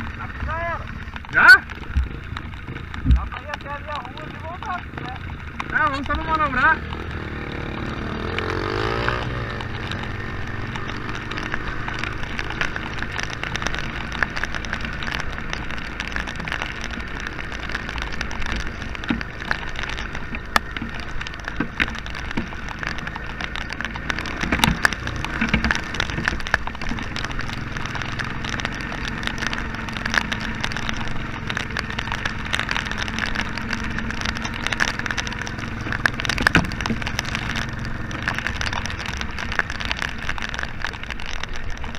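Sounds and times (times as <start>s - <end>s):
atv engine running at low revs: 0.0s - 41.9s
rain pattering: 0.0s - 41.9s.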